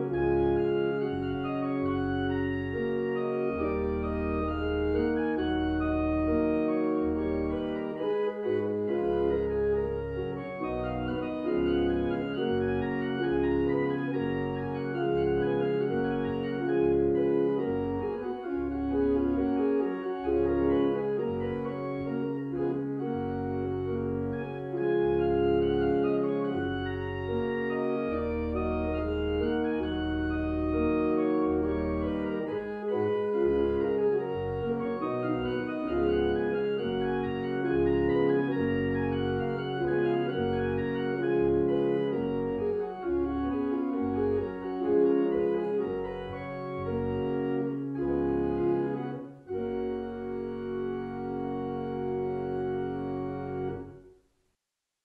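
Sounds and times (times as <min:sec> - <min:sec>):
church organ playing chords: 0:00.0 - 0:54.1.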